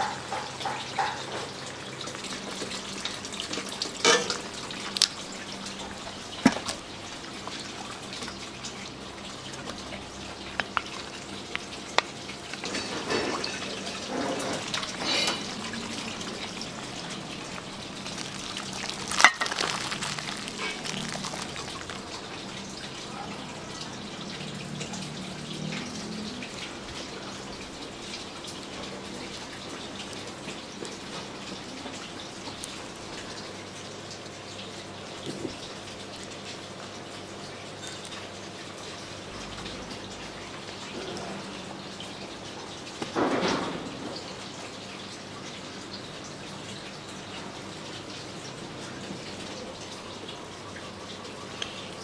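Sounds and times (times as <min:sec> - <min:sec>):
water running and splashing: 0:00.0 - 0:52.0.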